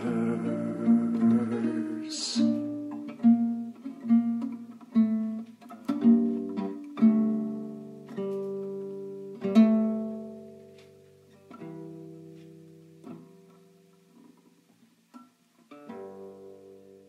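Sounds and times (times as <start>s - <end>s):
guitar chords: 0.0s - 17.0s.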